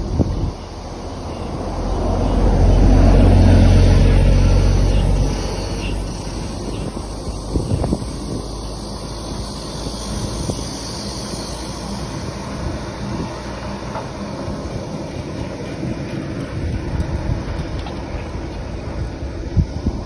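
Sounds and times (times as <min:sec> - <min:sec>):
bicycle tyres on asphalt: 0:00.0 - 0:20.0
wind on microphone: 0:00.0 - 0:20.0.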